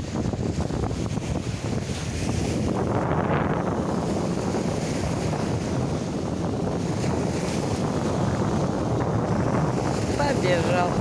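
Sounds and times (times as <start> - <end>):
small waves breaking on sand: 0.0 - 11.0
wind noise on microphone: 0.0 - 11.0.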